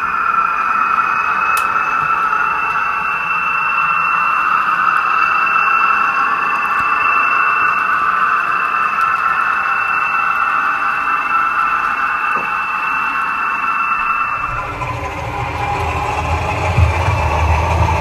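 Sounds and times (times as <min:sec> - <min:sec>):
high-pitched whine: 0:00.0 - 0:18.0
model train wheels on track: 0:00.0 - 0:18.0.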